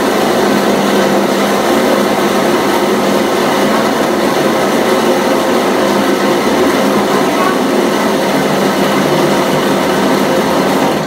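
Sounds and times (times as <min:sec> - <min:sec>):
stove burner roaring: 0:00.0 - 0:11.0.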